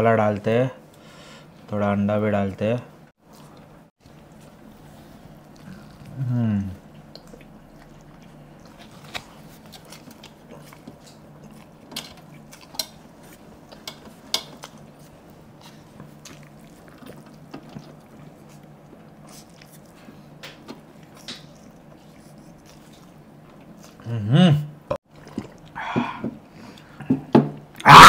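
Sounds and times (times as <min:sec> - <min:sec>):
eating sounds: 0:03.2 - 0:27.1.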